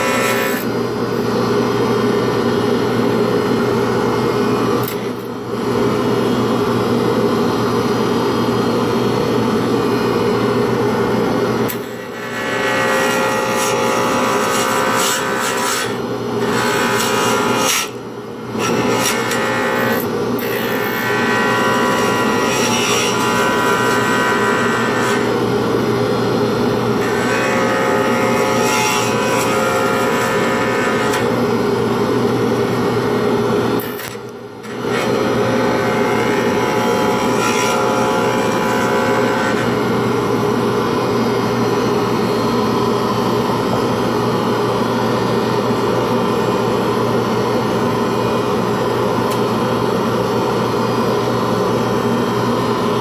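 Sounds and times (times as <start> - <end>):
lathe spinning wood: 0.0 - 6.4, 11.4 - 49.2.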